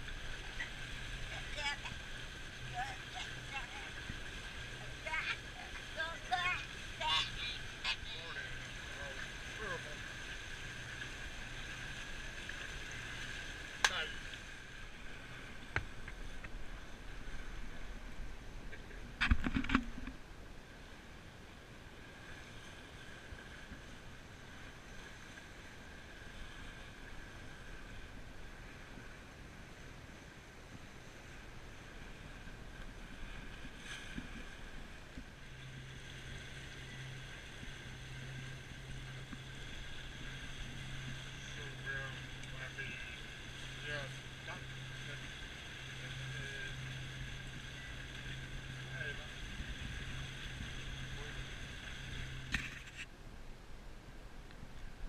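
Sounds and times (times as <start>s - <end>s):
low steady hum: 0.0s - 55.0s
wind and water noise: 0.0s - 55.0s.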